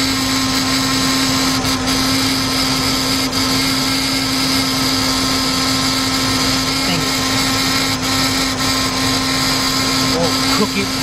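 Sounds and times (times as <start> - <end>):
car engine idling with misfire: 0.0 - 11.0.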